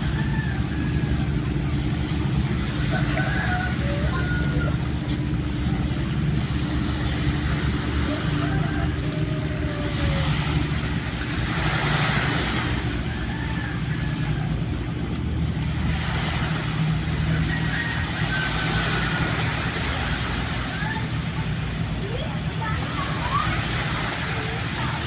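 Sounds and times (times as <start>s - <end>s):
ship engines droning: 0.0s - 25.0s.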